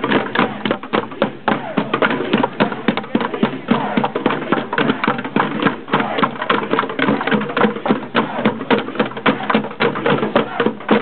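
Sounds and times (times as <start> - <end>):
hand drums beating fast rhythm: 0.0 - 11.0.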